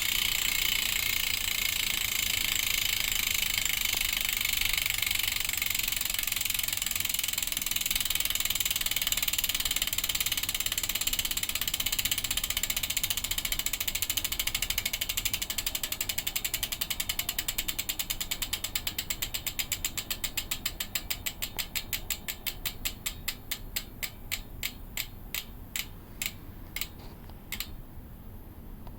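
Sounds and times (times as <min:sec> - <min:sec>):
bicycle freehub clicking: 0:00.0 - 0:27.9.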